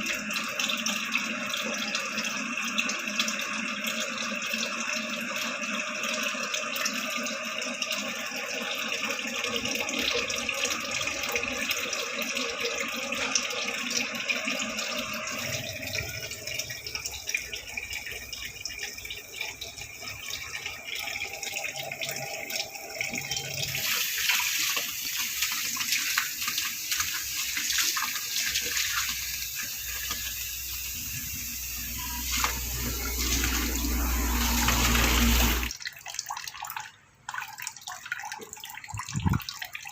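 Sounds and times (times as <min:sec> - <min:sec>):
water running from sink tap: 0:00.0 - 0:39.9.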